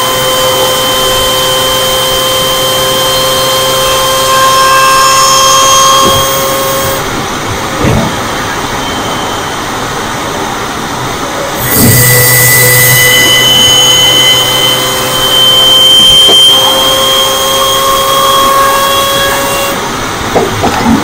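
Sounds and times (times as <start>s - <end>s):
supercharger whine: 0.0s - 21.0s.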